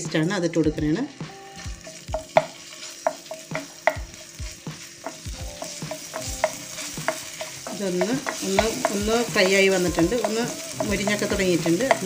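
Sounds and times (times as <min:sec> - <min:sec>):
paste sizzling in hot oil: 0:00.0 - 0:12.0
wooden spatula scraping pan: 0:01.6 - 0:12.0.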